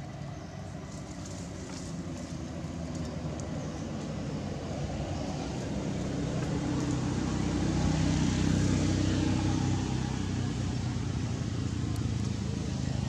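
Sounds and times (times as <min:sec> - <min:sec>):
passing vehicle engine hum: 0:00.0 - 0:13.0.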